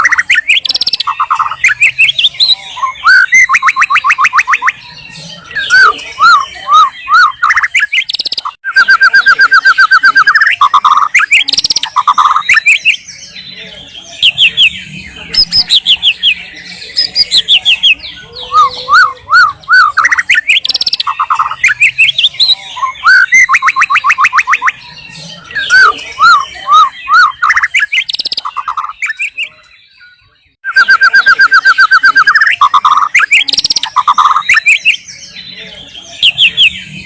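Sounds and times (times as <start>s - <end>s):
bird singing whistled phrases and trills: 0.0s - 37.0s.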